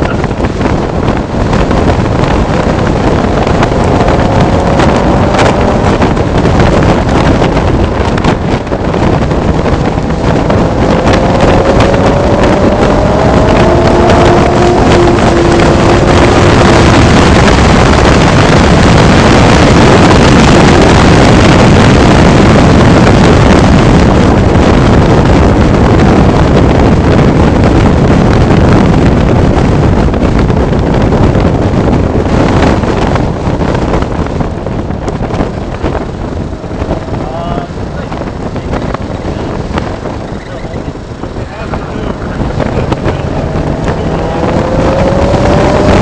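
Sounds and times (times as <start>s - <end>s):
car engine under hard driving: 0.0s - 46.0s
wind and road noise: 0.0s - 46.0s.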